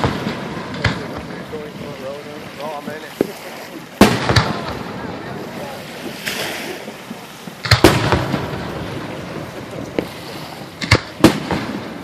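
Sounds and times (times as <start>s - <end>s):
fireworks bangs: 0.0s - 1.9s, 4.0s - 12.0s.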